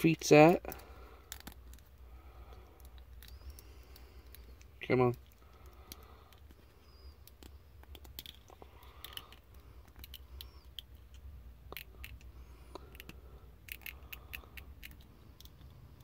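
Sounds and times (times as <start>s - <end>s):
plastic figure parts clicking: 0.5s - 16.0s.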